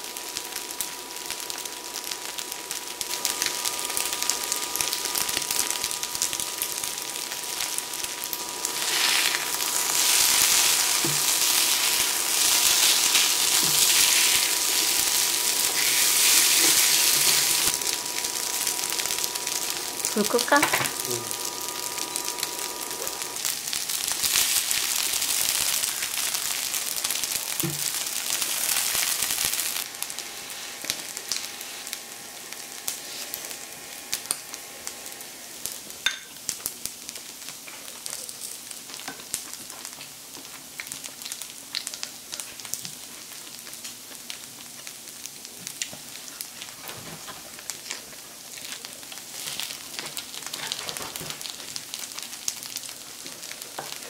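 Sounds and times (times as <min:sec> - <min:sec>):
fried rice sizzling on a hot plate: 0:00.0 - 0:54.0.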